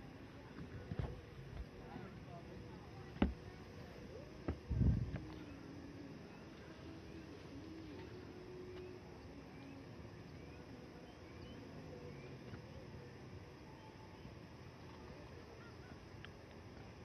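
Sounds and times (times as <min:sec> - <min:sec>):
faint low drone: 0:00.0 - 0:17.0.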